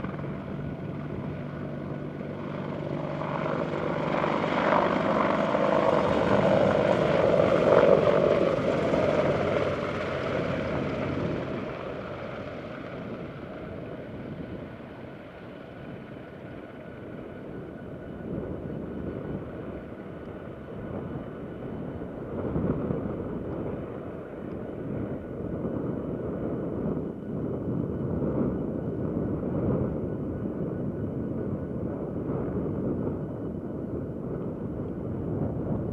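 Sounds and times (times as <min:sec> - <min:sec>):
helicopter rotor and engines: 0:00.0 - 0:35.9
turbine whine: 0:00.0 - 0:35.9.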